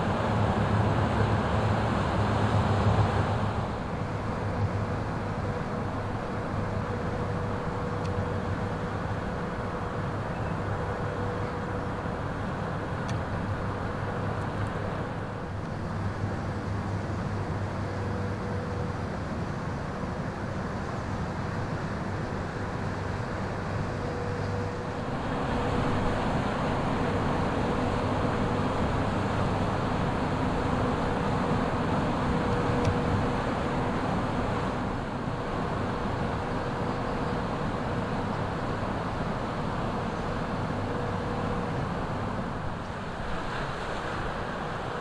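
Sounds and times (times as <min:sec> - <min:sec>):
ship diesel engine drone: 0:00.0 - 0:45.0.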